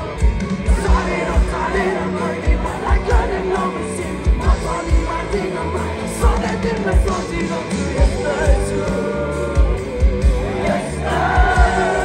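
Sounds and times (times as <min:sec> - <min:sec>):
live band music: 0:00.0 - 0:12.0
person singing: 0:00.0 - 0:12.0.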